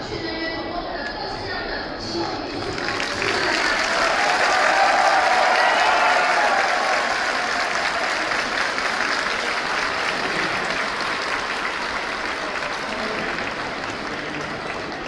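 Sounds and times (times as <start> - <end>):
crowd applauding: 2.6 - 15.0.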